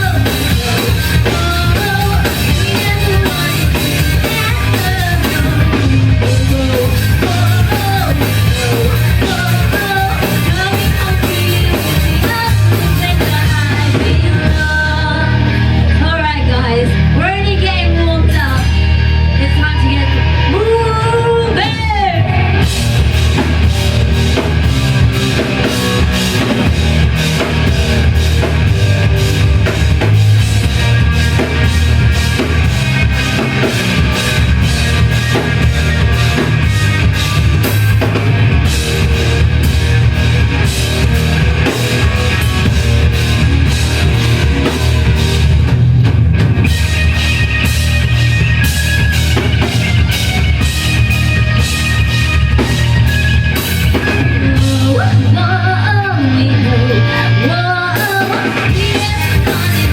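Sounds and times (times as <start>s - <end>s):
drum kit beat: 0.0s - 19.4s, 20.2s - 55.8s, 57.0s - 59.9s
rock band playing: 0.0s - 59.9s.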